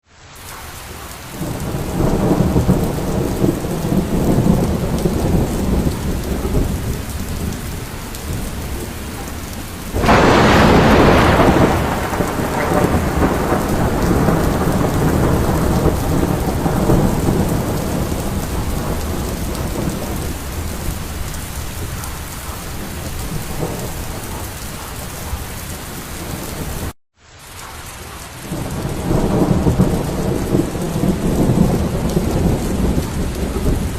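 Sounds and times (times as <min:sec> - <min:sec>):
rain falling: 0:00.0 - 0:33.9
low thunder rolling: 0:01.3 - 0:27.0, 0:28.4 - 0:33.9
sharp close thunderclap: 0:01.4 - 0:09.1, 0:09.9 - 0:24.4, 0:28.5 - 0:33.9.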